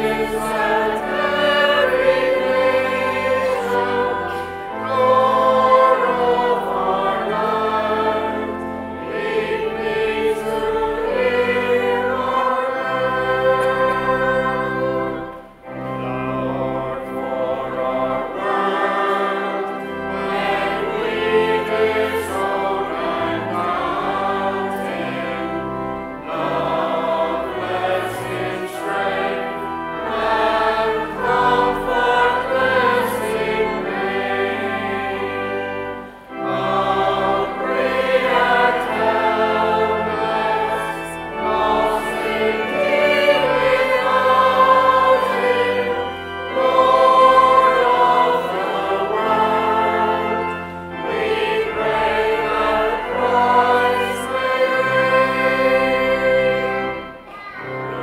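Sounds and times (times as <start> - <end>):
choir singing a hymn: 0.0 - 58.0
pipe organ: 0.0 - 58.0.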